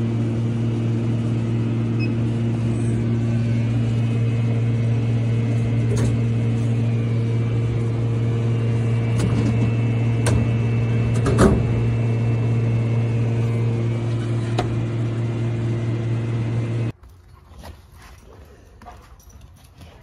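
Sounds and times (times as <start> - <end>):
vending machine electric hum: 0.0 - 17.0.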